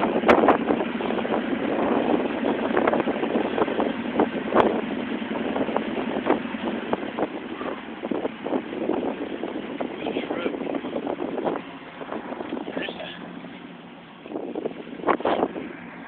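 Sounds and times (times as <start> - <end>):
vehicle rumbling from inside: 0.0 - 16.0.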